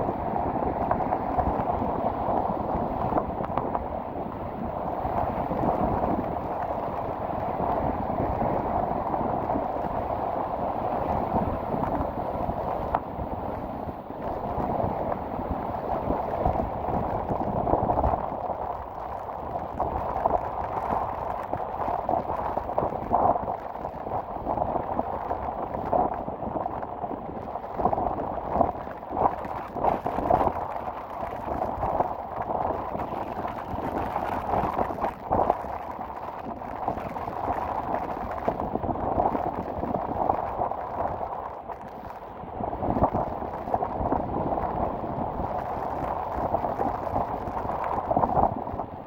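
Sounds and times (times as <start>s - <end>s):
waves breaking in heavy surf: 0.0s - 49.0s
wind gusting on microphone: 0.0s - 49.0s.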